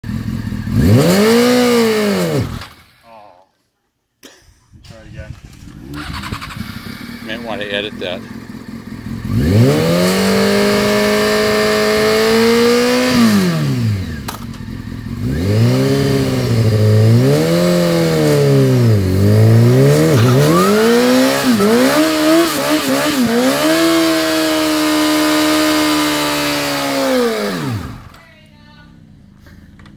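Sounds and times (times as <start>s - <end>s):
motorcycle engine revving: 0.0s - 3.0s, 4.9s - 28.2s.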